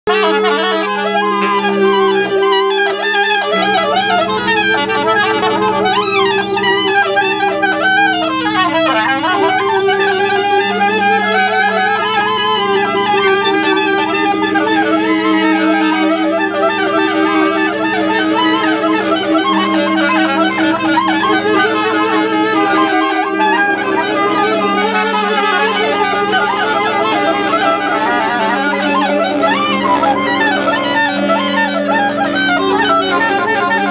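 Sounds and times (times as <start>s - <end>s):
saxophone ensemble playing: 0.0s - 33.9s.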